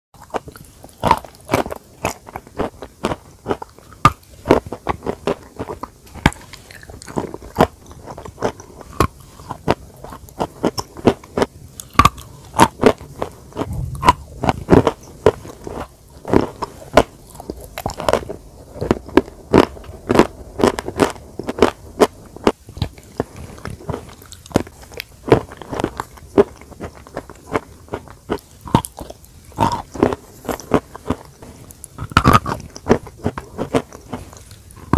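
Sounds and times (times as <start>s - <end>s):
chewing: 0.2s - 34.9s
crunching bites of hard food: 0.2s - 34.9s.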